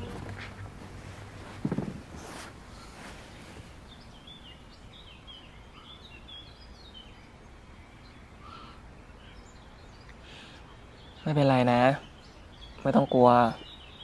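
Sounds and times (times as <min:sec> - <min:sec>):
faint birds chirping: 0:00.0 - 0:14.0
outdoor background hum: 0:00.0 - 0:14.0.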